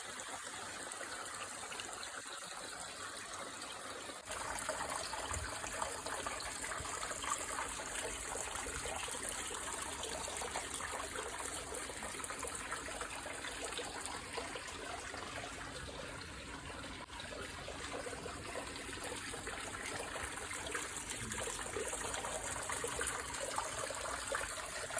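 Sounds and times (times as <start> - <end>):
stream water trickling and splashing: 0.0 - 24.9.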